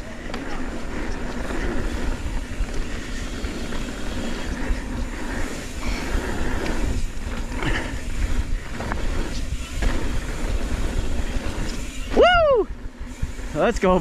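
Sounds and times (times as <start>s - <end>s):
mountain bike rumbling on dirt: 0.0s - 14.0s.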